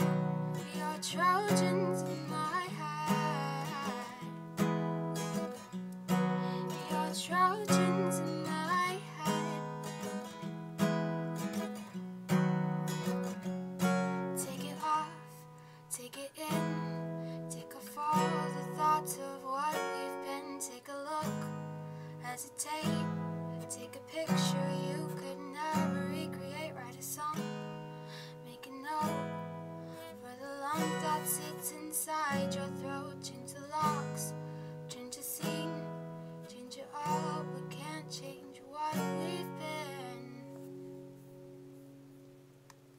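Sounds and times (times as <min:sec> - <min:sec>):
acoustic guitar strumming: 0:00.0 - 0:42.7.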